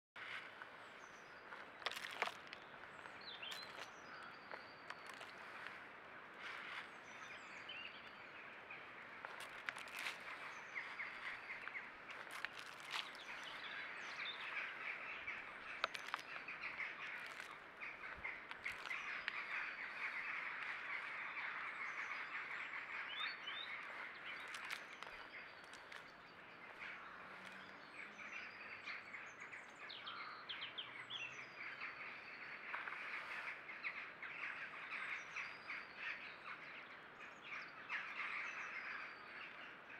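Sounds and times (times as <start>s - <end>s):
small birds chirping: 0.2s - 39.9s.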